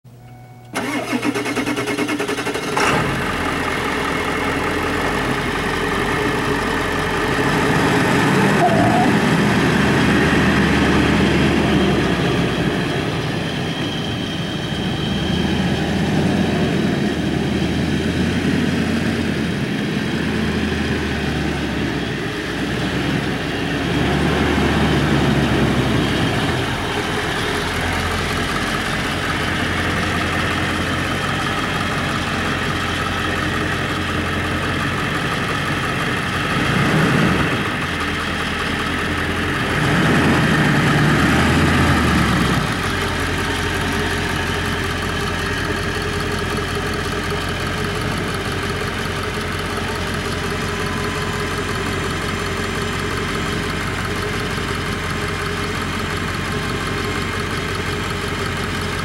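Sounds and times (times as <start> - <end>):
diesel truck engine running: 0.1 - 59.0.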